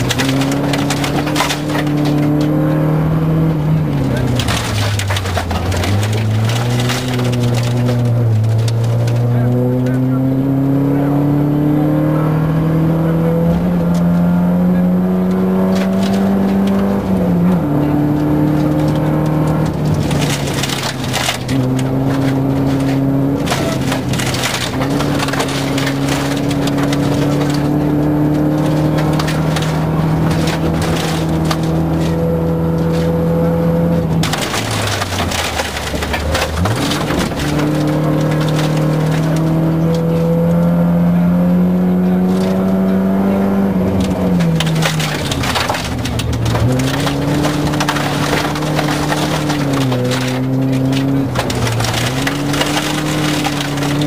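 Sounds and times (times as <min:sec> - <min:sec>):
car engine revving: 0:00.0 - 0:54.0
gravel crackling against car: 0:00.0 - 0:54.0.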